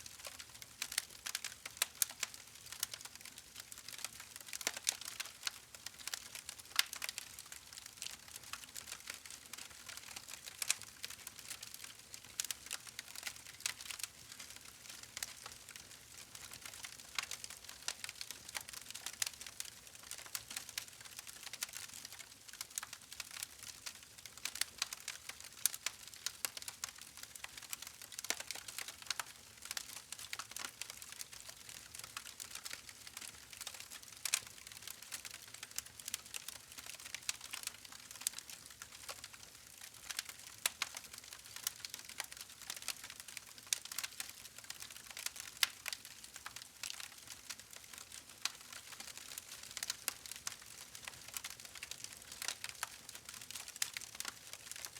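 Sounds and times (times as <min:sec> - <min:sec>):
wood fire crackling and popping: 0:00.1 - 0:54.9.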